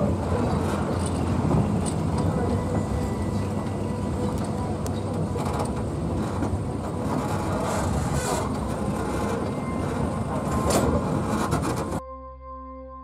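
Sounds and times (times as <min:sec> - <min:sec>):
train wheels rumbling on rails: 0:00.0 - 0:12.0
ambient music with held tones: 0:00.0 - 0:13.0.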